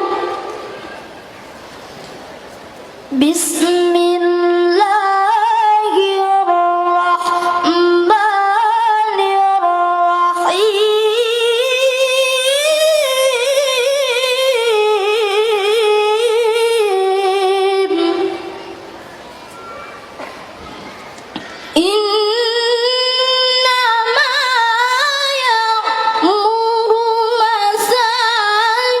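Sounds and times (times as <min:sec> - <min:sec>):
person reciting melodically: 0:00.0 - 0:01.2, 0:03.1 - 0:19.0, 0:21.4 - 0:29.0.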